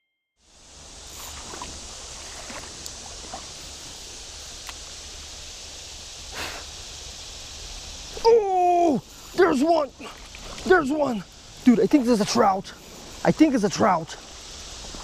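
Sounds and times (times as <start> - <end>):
flowing creek water: 0.5 - 15.0.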